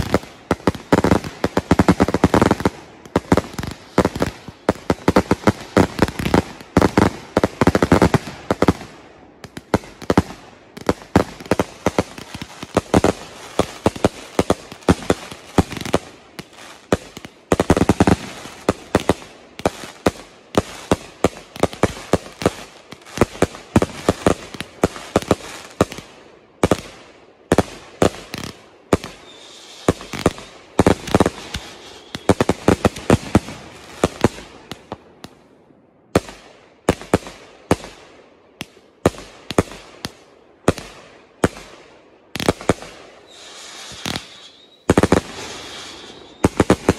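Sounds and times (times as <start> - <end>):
fireworks banging: 0.0 - 26.9, 27.6 - 35.4, 43.8 - 46.9
fireworks crackling: 0.0 - 35.4, 38.6 - 46.9.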